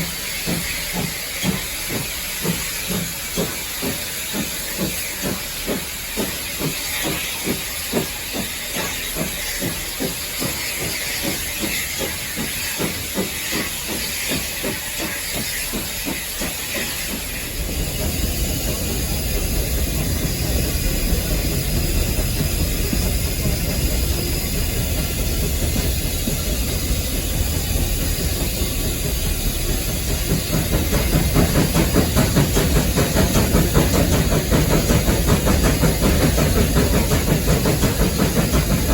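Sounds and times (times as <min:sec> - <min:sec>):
steam hissing: 0:00.0 - 0:38.9
steam locomotive beat: 0:00.0 - 0:38.9.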